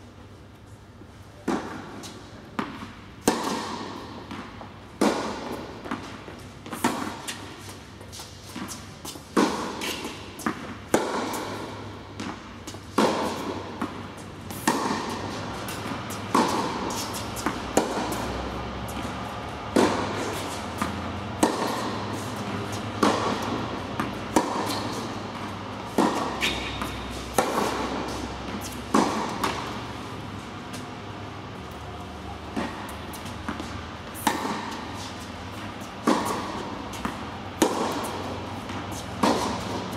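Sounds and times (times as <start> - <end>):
rackets striking tennis ball: 1.4 - 39.9
tennis ball bouncing: 1.4 - 39.9.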